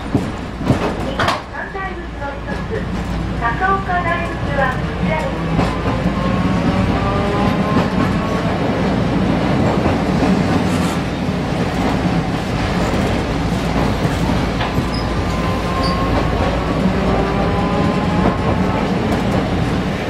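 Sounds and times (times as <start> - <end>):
wheels rumbling on rails: 0.0 - 20.0.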